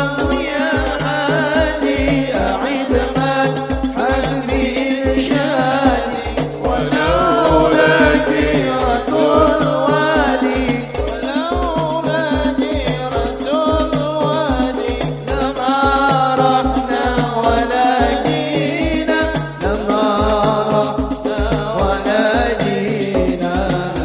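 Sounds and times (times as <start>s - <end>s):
frame drums playing steady beat: 0.0s - 24.0s
man singing through sound system: 0.0s - 24.0s.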